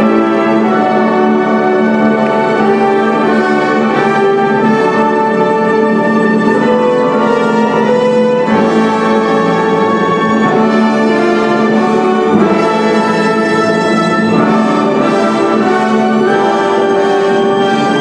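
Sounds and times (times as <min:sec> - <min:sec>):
brass held chords: 0:00.0 - 0:18.0
orchestra playing ballet music: 0:00.0 - 0:18.0.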